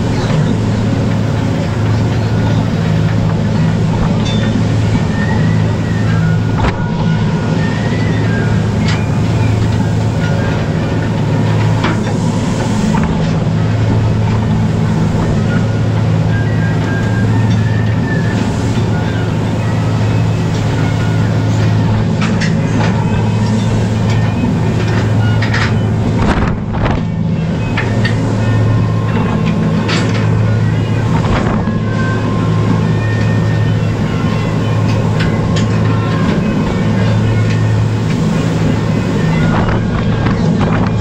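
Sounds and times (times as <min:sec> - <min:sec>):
boat engine drone: 0:00.0 - 0:41.0.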